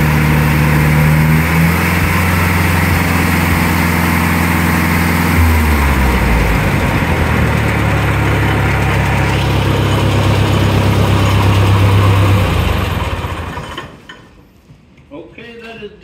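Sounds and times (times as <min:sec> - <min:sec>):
gasoline engine running: 0:00.0 - 0:14.0.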